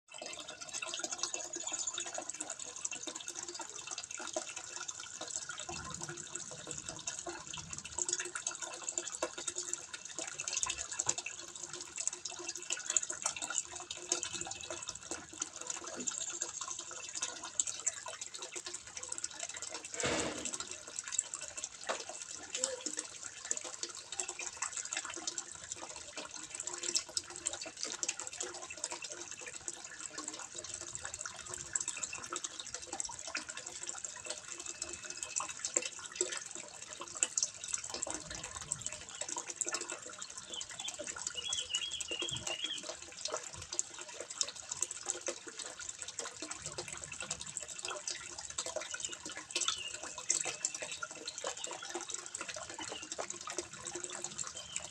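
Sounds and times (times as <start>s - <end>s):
small water drips: 0.1s - 54.9s
water trickling into pond: 0.1s - 54.9s.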